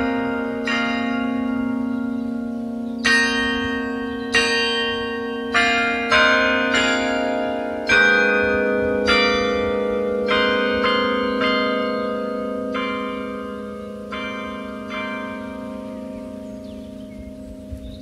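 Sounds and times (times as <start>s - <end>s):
carillon bells playing a melody: 0.0s - 18.0s
low bass bell: 0.0s - 18.0s.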